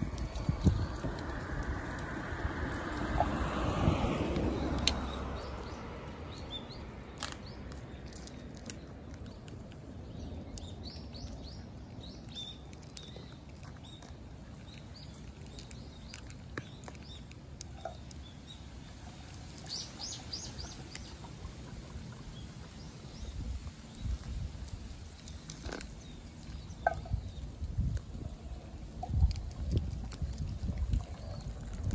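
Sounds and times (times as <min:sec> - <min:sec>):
small birds chirping: 0:04.6 - 0:31.9.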